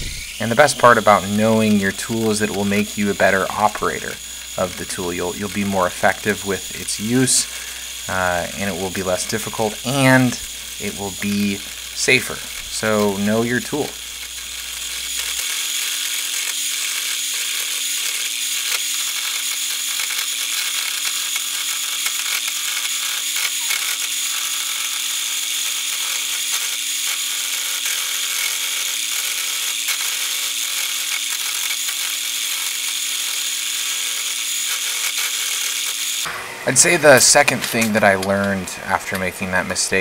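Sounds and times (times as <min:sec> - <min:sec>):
hiss of cutting wood: 0:00.0 - 0:38.9
motor hum: 0:00.0 - 0:40.0.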